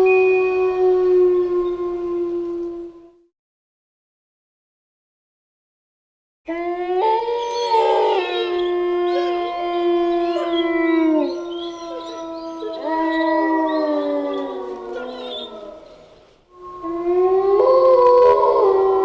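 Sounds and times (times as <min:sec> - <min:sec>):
wolves howling: 0:00.0 - 0:03.2, 0:06.5 - 0:19.0.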